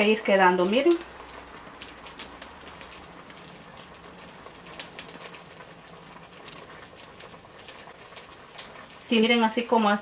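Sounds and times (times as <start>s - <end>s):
garlic hissing and crackling over flame: 0.0s - 10.0s.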